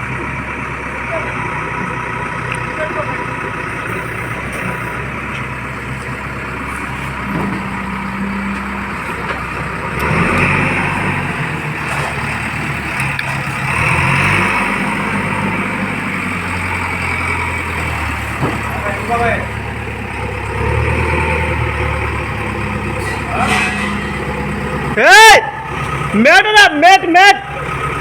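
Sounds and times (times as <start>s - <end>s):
diesel engine revving: 0.0s - 28.0s.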